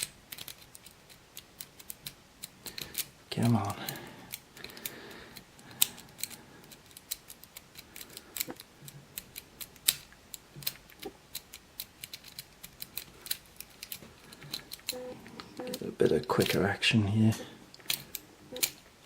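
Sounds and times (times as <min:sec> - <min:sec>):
lock pick clicking and scratching: 0:00.0 - 0:15.8, 0:17.7 - 0:18.9.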